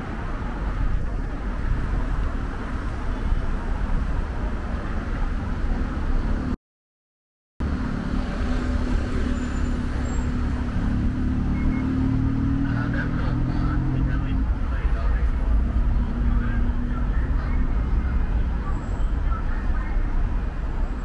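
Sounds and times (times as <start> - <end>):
traffic rumble: 0.0 - 6.6, 7.6 - 21.0.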